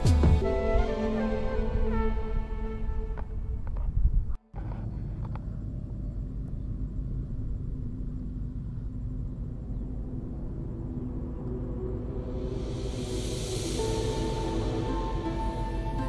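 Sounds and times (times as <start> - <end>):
low rumble: 0.4 - 16.0
faint steady hum: 3.0 - 16.0.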